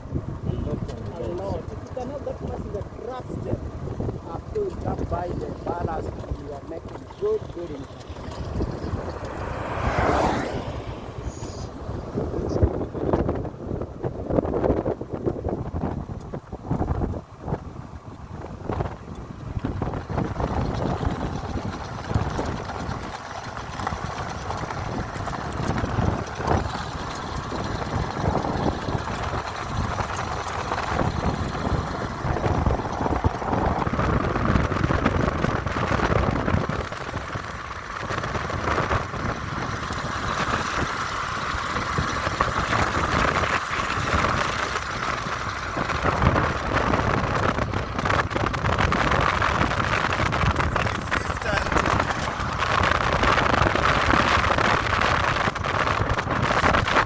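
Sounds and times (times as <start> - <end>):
vehicle driving on road: 0.0 - 57.0
wind rushing over microphone: 0.0 - 57.0.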